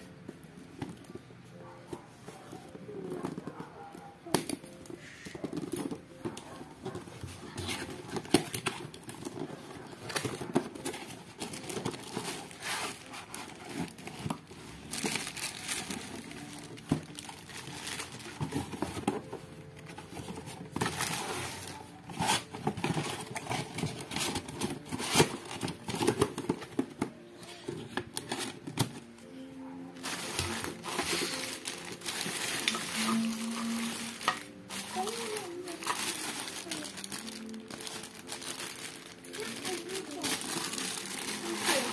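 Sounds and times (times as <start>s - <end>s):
plastic bag crinkling: 4.3s - 29.2s, 29.9s - 41.9s.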